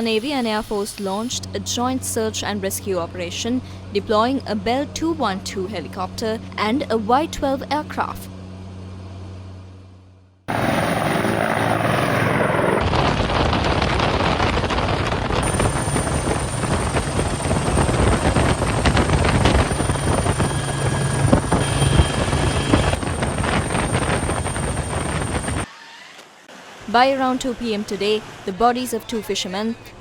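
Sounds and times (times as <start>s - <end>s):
helicopter rotor and turbine: 0.0s - 25.7s.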